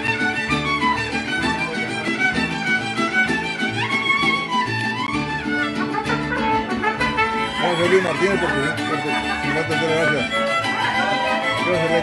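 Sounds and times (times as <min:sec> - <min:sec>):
strummed guitars: 0:00.0 - 0:12.0
violins playing melody: 0:00.0 - 0:12.0.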